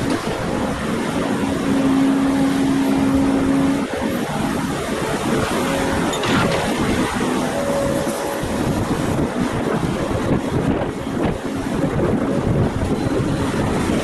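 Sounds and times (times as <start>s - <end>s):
diesel engines running: 0.0s - 14.0s
steady tone: 0.0s - 14.0s.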